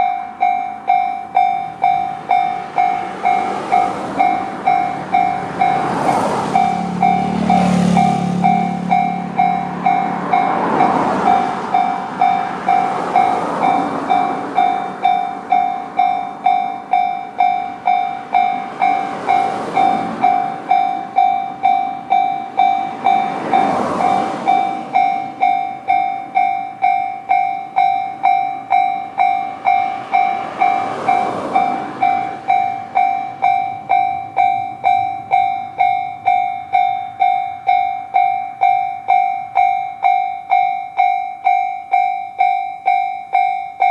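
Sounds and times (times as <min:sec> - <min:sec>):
level crossing electronic alarm: 0:00.0 - 0:43.9
rumbling rail noise: 0:00.0 - 0:43.9.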